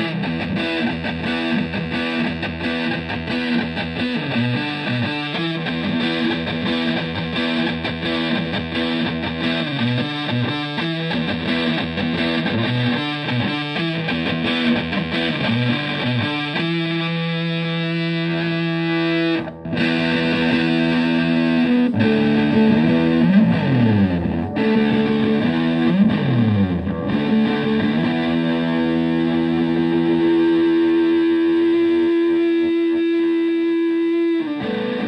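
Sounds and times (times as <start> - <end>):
fuzzy electric guitar: 0.0 - 35.0.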